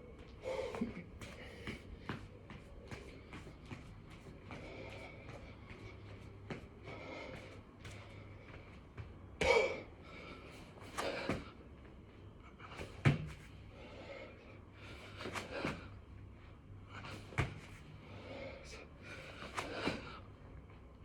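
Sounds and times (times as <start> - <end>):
hard breathing: 0.3 - 11.7, 12.4 - 16.2, 16.8 - 20.4.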